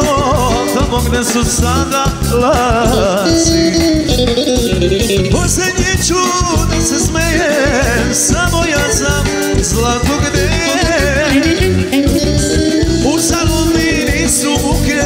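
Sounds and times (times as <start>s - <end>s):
man singing into a microphone: 0.0s - 4.2s, 5.2s - 15.0s
live band music: 0.0s - 15.0s.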